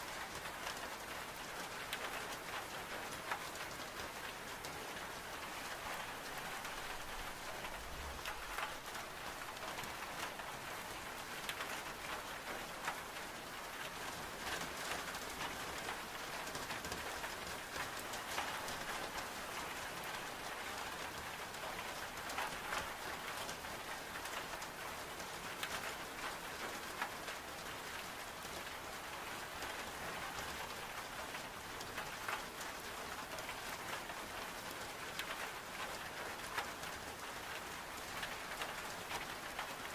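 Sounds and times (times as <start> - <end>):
heavy rain on window glass: 0.0 - 39.9.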